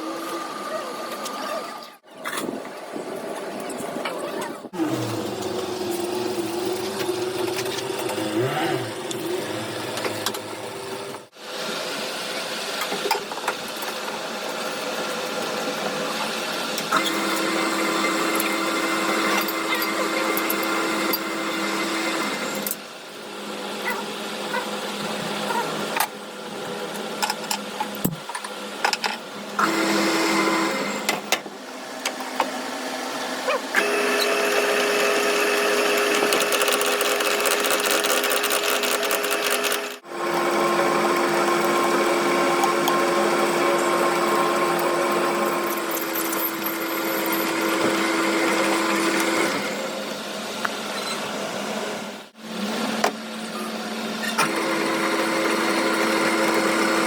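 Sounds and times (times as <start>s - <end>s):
workshop machinery motor hum: 0.0s - 57.0s.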